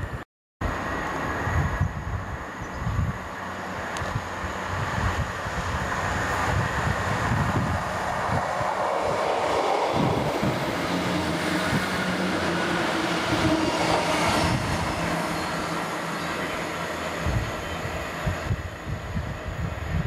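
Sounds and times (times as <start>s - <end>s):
diesel engine hum: 0.6s - 19.7s
train wheels rumbling on rails: 0.7s - 20.0s.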